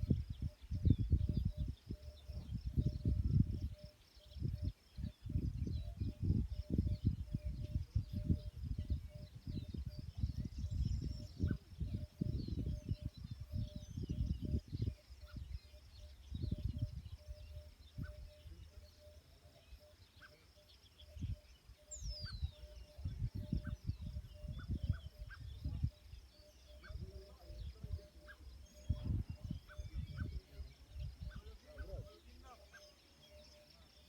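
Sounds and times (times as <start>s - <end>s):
small birds chirping and twittering: 0.0s - 34.0s.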